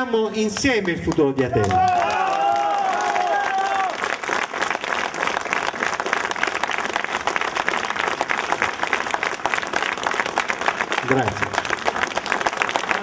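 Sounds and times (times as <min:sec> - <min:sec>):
crowd applauding: 0:00.5 - 0:13.0.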